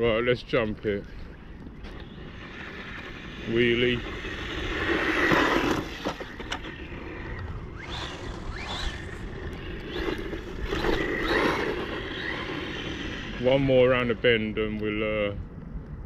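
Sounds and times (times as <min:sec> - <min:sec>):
tyres and wind hiss: 0:00.0 - 0:16.0
electric motor whining: 0:01.1 - 0:14.6.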